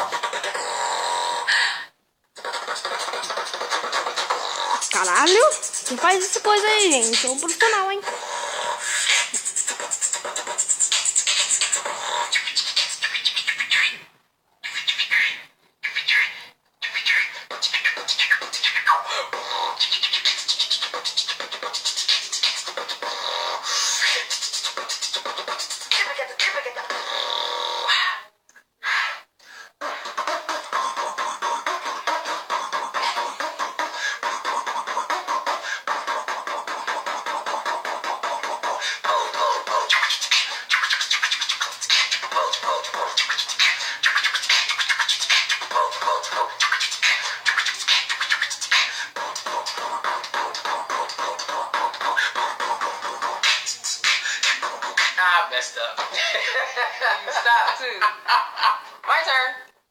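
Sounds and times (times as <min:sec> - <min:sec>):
person beatboxing: 0:00.0 - 0:56.7.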